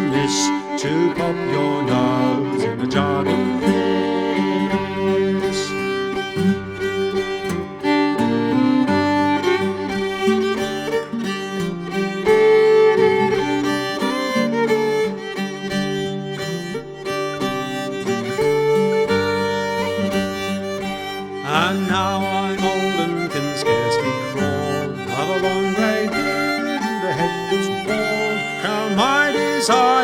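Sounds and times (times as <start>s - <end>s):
fiddle playing folk melody: 0.0s - 30.0s
instrumental accompaniment: 3.3s - 30.0s.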